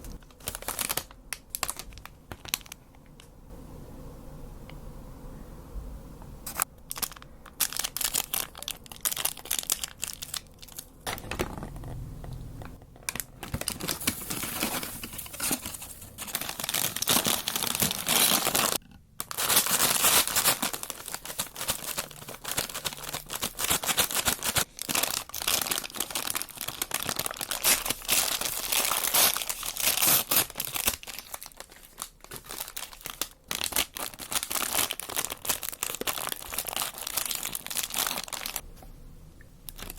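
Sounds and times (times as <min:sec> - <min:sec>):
paper packaging crinkling: 0:00.0 - 0:03.2, 0:06.5 - 0:11.9, 0:12.6 - 0:38.6, 0:39.7 - 0:39.9.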